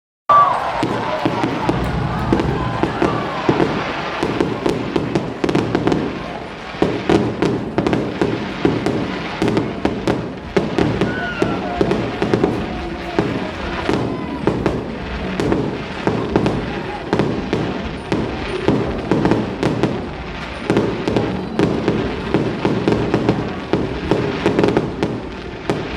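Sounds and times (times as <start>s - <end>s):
fireworks bangs and crackles: 0.3s - 25.9s.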